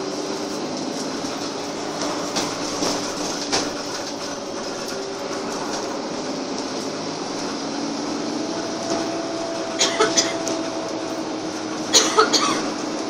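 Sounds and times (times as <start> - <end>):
bus body rattling: 0.0 - 13.0
bus engine and road noise: 0.0 - 13.0.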